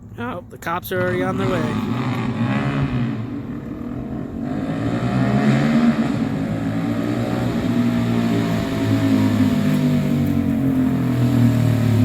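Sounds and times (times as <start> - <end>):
motorcycle engine with rasping exhaust: 1.3 - 12.0.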